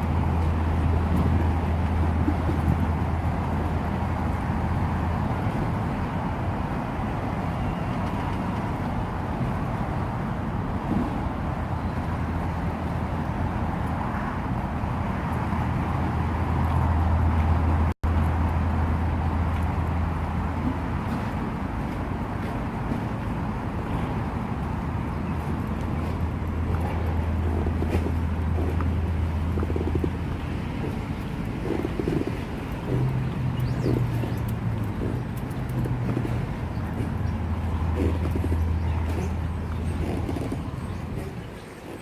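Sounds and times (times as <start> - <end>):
low outdoor rumble: 0.0 - 42.0.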